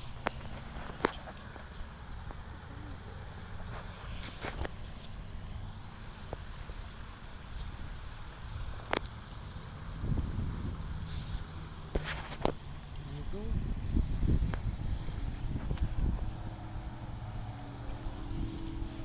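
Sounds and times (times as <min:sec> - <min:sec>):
high-pitched insect buzz: 0:00.0 - 0:19.0.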